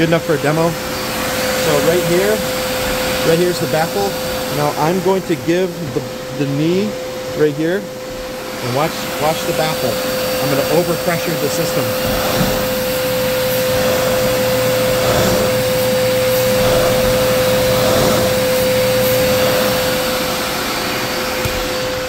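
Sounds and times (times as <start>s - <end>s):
blower whining: 0.0s - 22.0s.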